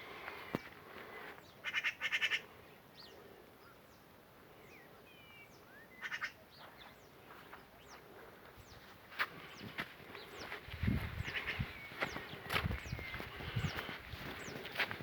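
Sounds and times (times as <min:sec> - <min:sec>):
birds rapid harsh calls: 0:01.4 - 0:03.8, 0:05.4 - 0:15.0.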